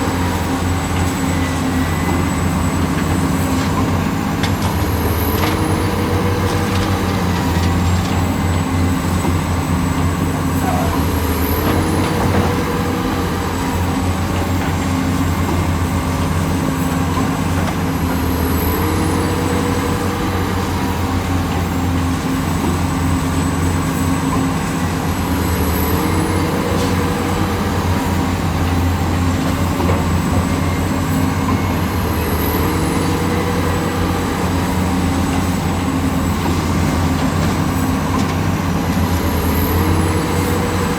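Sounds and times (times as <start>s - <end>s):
heavy machinery engine running: 0.0s - 40.9s.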